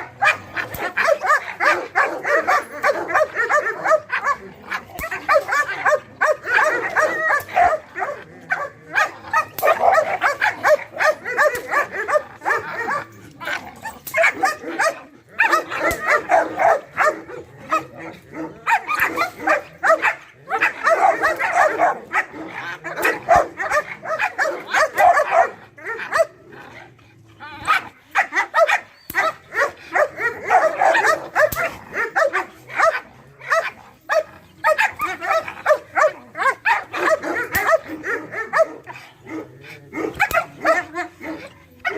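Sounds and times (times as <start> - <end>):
dog barking: 0.0 - 13.2, 14.1 - 26.4, 27.6 - 41.9.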